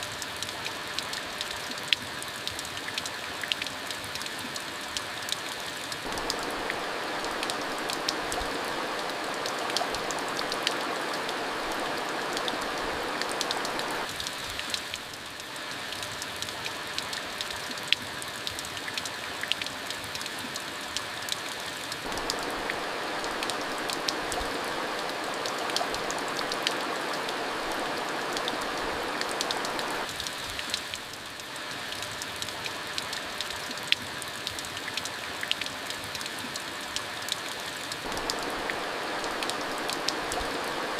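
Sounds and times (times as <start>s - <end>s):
rain hissing with drop ticks: 0.0s - 40.9s.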